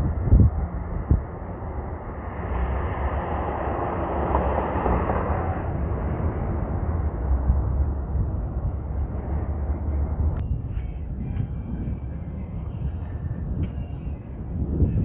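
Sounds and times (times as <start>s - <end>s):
passing vehicle: 0.0s - 15.0s
steady low street rumble: 0.0s - 15.0s.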